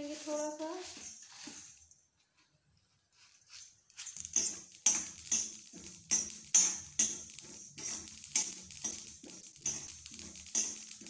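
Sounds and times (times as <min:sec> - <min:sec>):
seeds stirred in dry iron pan: 0:00.0 - 0:01.8, 0:03.4 - 0:11.0.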